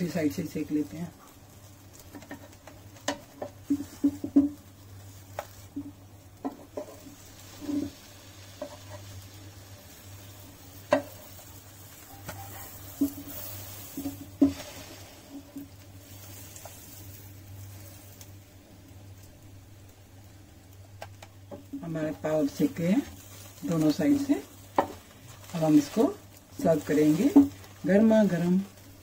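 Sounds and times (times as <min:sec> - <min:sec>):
faint butter sizzling: 0:00.0 - 0:29.0
low steady hum: 0:00.0 - 0:29.0
wooden spatula scraping a pan: 0:01.2 - 0:18.3, 0:21.5 - 0:29.0.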